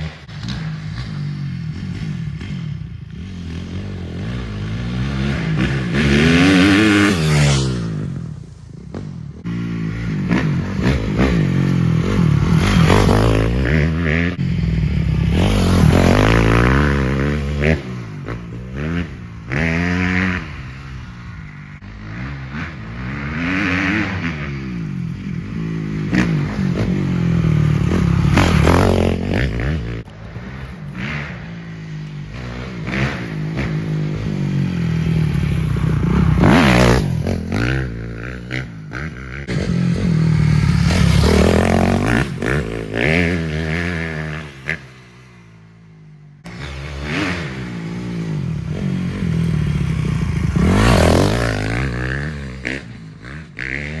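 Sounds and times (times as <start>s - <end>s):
dirt bike engine revving past: 0.0s - 54.0s.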